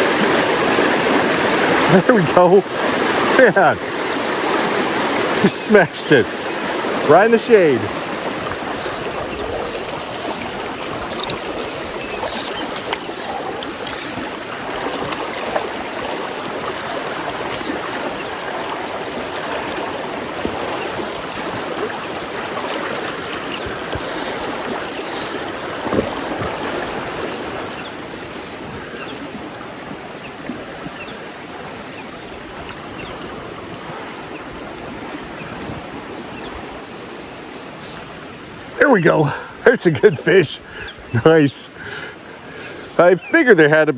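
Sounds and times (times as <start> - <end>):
stream flowing: 0.0 - 43.9.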